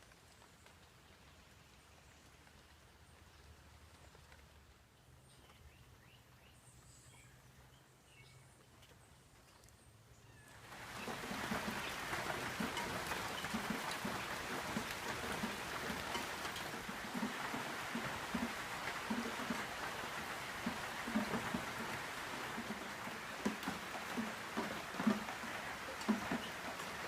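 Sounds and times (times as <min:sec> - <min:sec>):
heavy rain falling: 0:00.0 - 0:05.5, 0:10.6 - 0:27.0.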